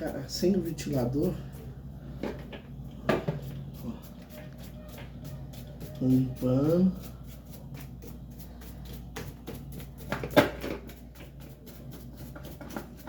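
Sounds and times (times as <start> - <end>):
rubbing plastic fan parts: 0.0 - 13.0
steady low hum: 0.0 - 13.0.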